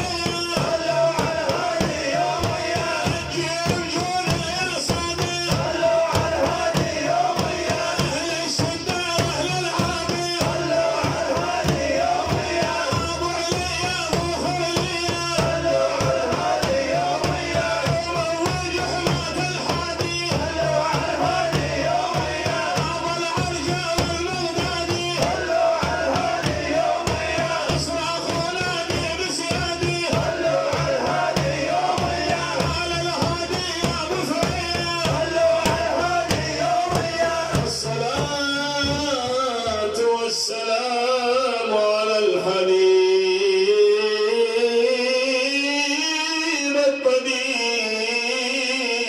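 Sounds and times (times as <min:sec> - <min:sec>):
rapid drum beats: 0:00.0 - 0:40.2.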